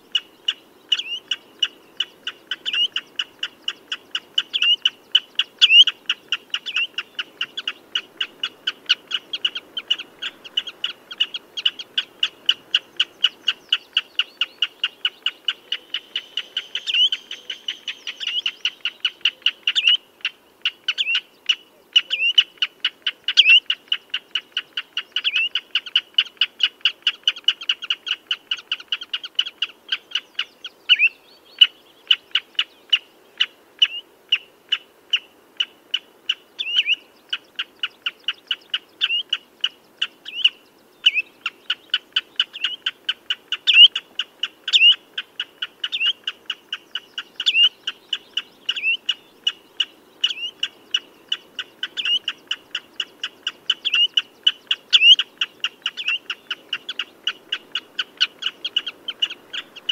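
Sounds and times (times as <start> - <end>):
bird piping calls: 0.0 - 59.9.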